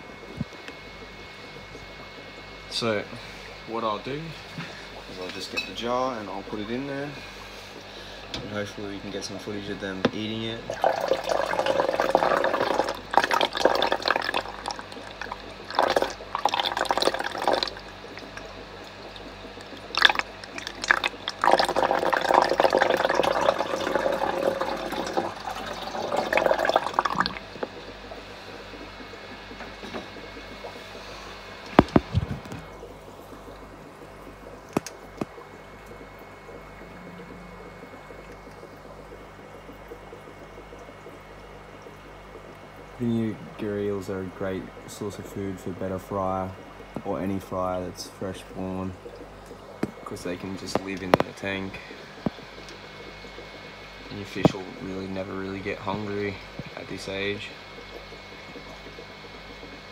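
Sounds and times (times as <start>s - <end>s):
low steady hum: 0.0s - 59.9s
water pouring into fish tank: 0.0s - 59.9s.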